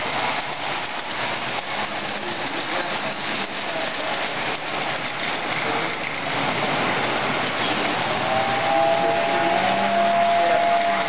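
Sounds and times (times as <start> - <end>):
toy train wheels on rails: 0.0 - 11.0.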